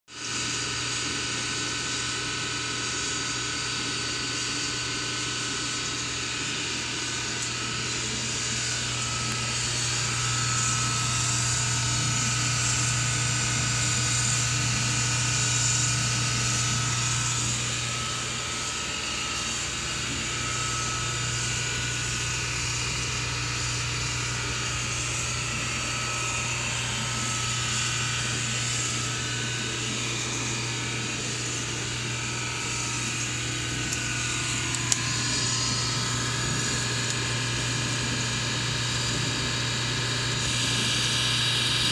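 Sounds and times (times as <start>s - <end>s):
dishwasher humming and whining: 0.1s - 41.9s.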